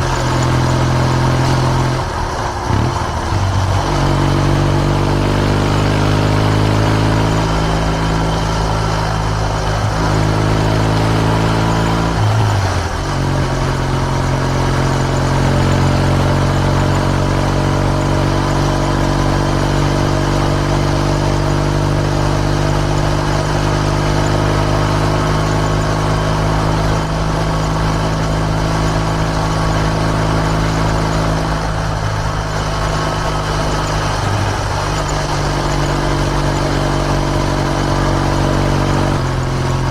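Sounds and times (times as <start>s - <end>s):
motorcycle exhaust note: 0.0s - 39.9s.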